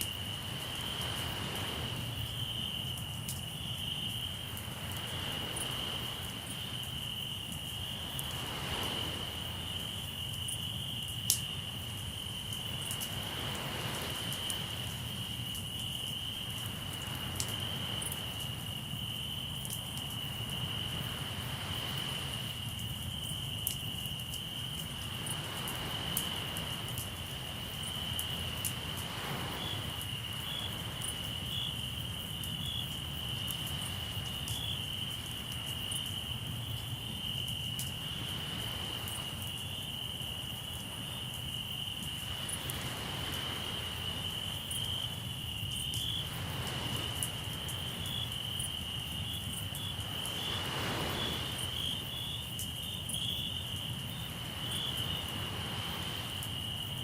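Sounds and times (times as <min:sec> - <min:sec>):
crickets trilling: 0:00.0 - 0:57.0
soft waves washing: 0:00.0 - 0:57.0.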